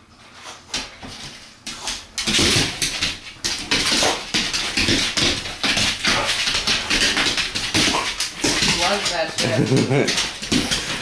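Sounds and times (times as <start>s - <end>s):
dog claws skittering on hard floor: 0.4s - 11.0s.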